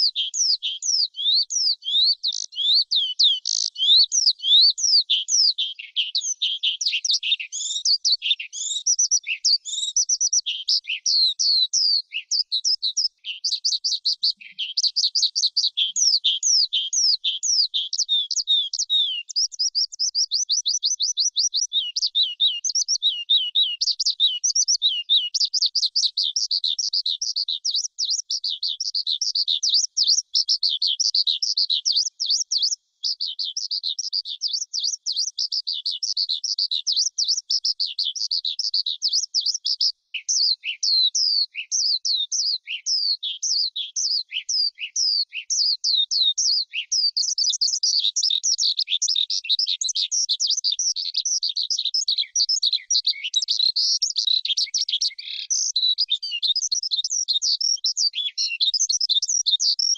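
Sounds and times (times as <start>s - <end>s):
skylark singing: 0.0s - 59.9s.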